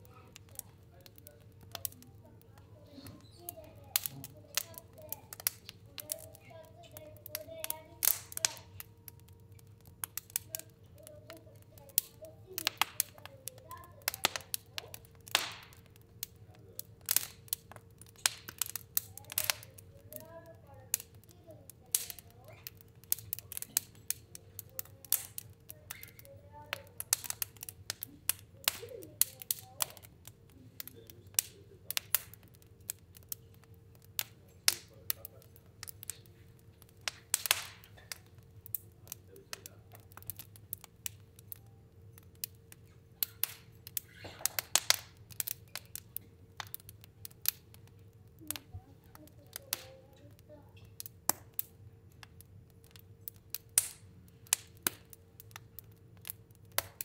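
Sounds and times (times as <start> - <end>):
faint steady hum: 0.0 - 57.0
fire crackling in a stove: 0.0 - 57.0.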